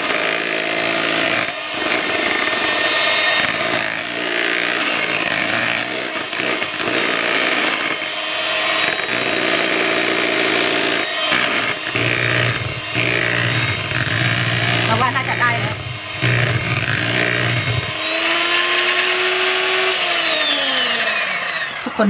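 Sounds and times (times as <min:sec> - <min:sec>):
electric hand mixer whipping cream: 0:00.0 - 0:22.0.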